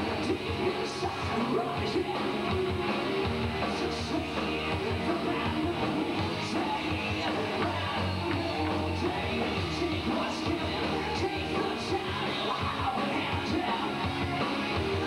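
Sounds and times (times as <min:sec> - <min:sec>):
electric guitar: 0:00.0 - 0:15.0
hard rock band playing live: 0:00.0 - 0:15.0.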